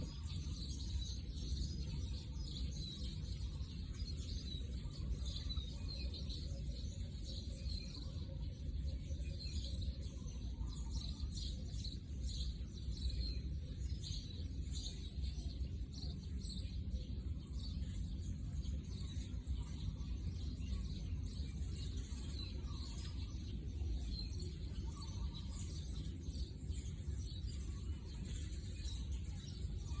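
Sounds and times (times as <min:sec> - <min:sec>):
small bird chirps: 0:00.0 - 0:30.0.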